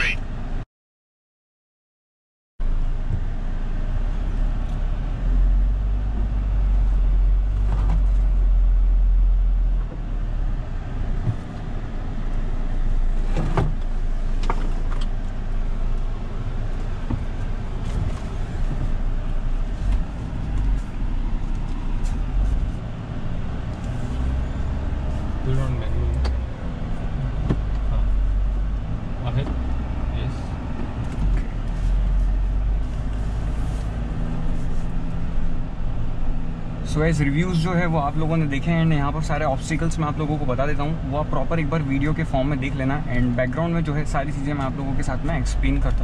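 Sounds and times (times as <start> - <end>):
engine rumbling under load: 2.6 - 46.0.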